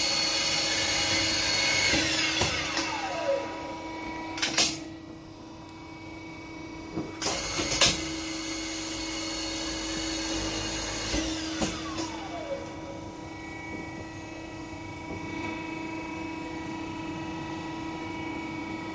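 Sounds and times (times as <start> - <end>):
motor hum: 0.0 - 18.9
spinning head whine winding down: 0.0 - 18.9.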